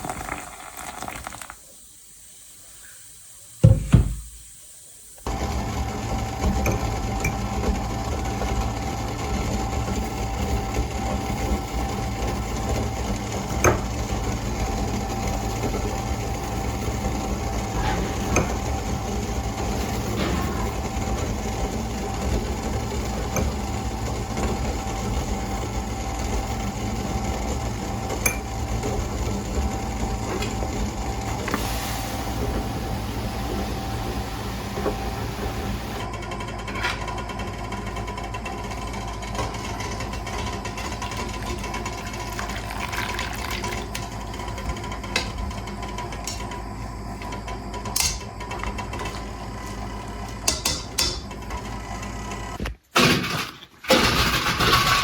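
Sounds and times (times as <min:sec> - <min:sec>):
machine hum with steady tone: 0:05.0 - 0:52.6.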